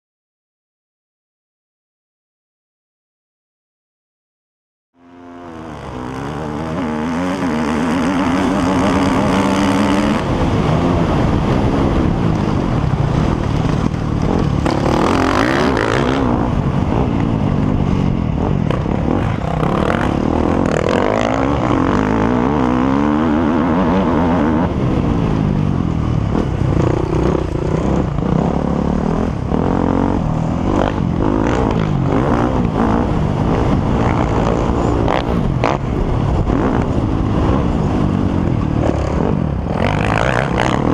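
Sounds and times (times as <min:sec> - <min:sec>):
motorcycle engines revving: 0:05.0 - 0:40.9.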